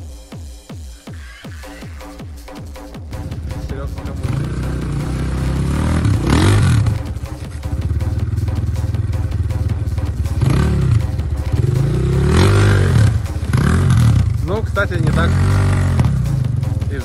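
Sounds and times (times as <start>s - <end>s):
dirt bike engine revving: 3.3s - 17.0s.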